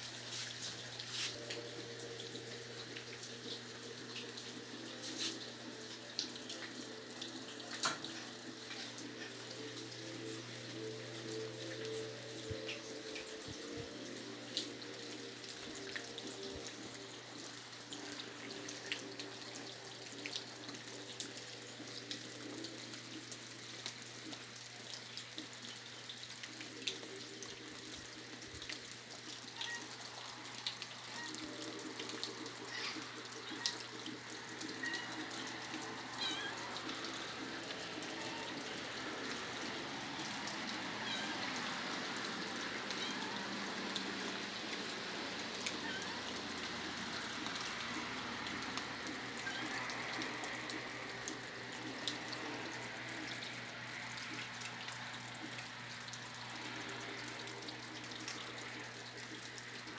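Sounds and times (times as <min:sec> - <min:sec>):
raindrops ticking: 0:00.0 - 0:59.9
steady rain hiss: 0:00.0 - 0:59.9.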